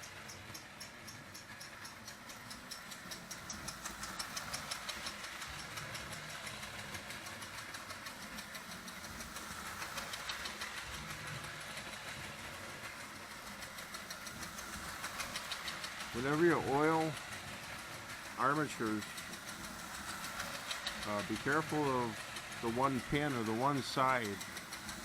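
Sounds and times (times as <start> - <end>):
fast mechanical clicking: 0.0 - 25.0
toy train motor humming: 0.0 - 25.0.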